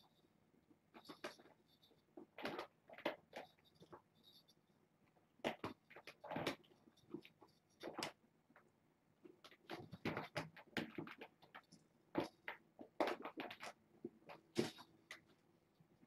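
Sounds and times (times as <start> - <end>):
kittens tapping and rustling toys: 0.9 - 15.5.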